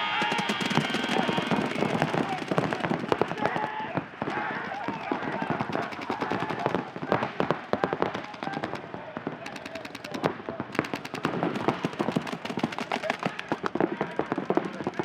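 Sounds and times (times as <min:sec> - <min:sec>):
paintball guns firing: 0:00.0 - 0:15.0.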